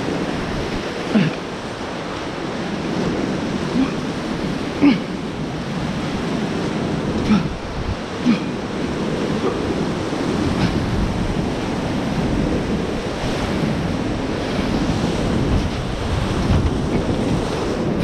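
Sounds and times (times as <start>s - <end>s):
rushing churning whitewater: 0.0s - 18.0s
waves breaking against hull: 0.0s - 18.0s.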